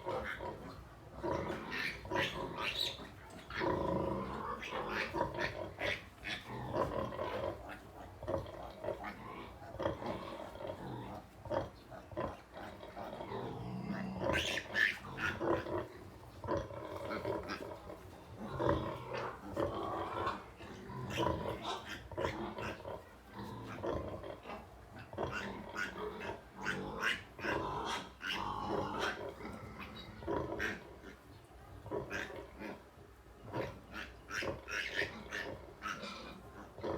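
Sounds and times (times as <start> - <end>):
pigs grunting and squealing: 0.0 - 31.2, 31.9 - 32.8, 33.5 - 36.9.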